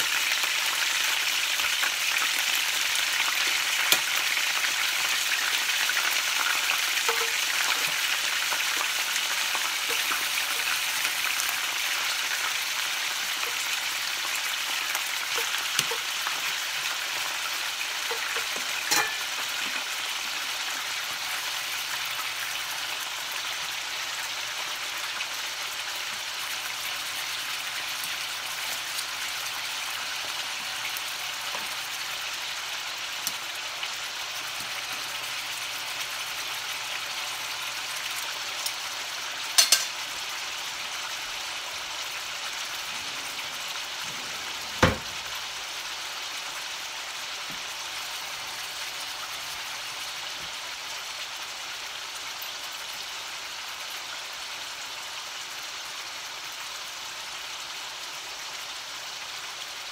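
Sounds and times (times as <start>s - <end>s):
beef sizzling in skillet: 0.0s - 59.9s.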